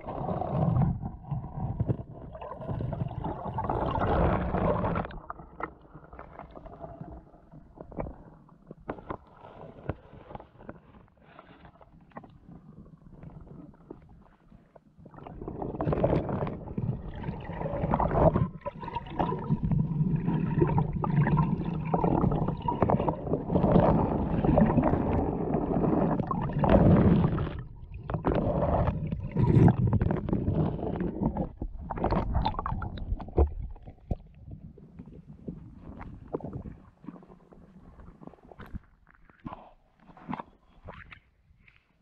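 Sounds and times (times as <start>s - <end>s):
underwater sloshing and gurgling: 0.0s - 42.0s.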